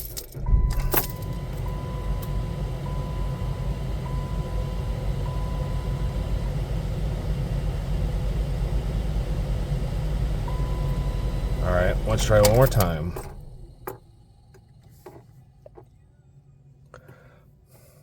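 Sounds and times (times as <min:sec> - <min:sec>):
car engine idling: 0:00.0 - 0:17.4.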